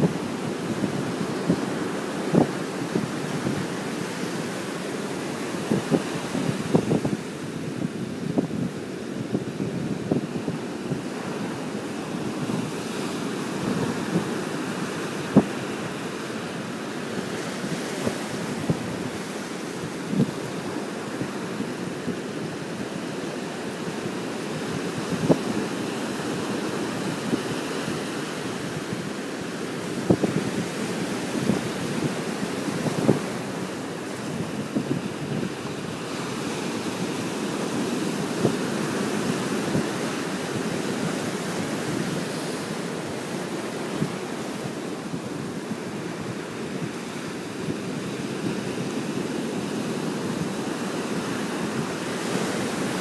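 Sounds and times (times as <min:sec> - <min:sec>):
waves breaking on rocks: 0:00.0 - 0:53.0
wind buffeting microphone: 0:00.0 - 0:53.0.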